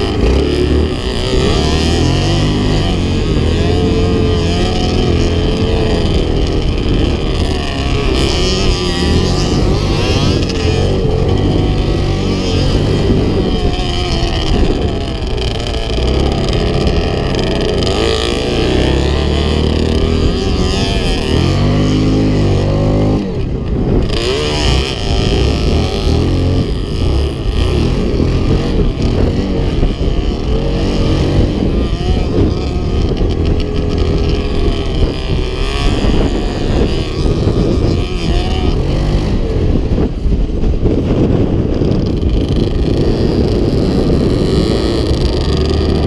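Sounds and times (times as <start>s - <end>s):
motorcycle and quad engines revving: 0.0s - 46.0s.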